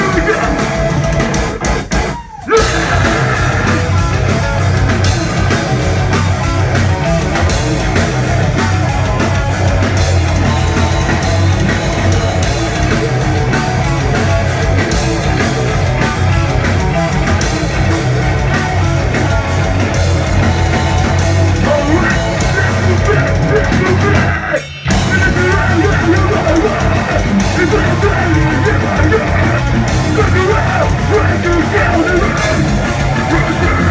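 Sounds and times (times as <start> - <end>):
heavy metal band playing live: 0.0 - 33.9.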